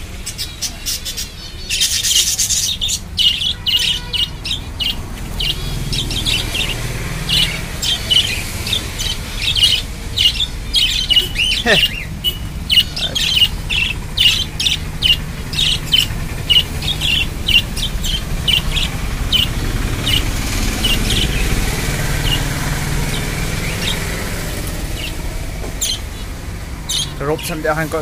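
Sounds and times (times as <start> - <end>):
budgerigars chirping and chattering: 0.0 - 28.0
low steady rumble: 4.3 - 28.0.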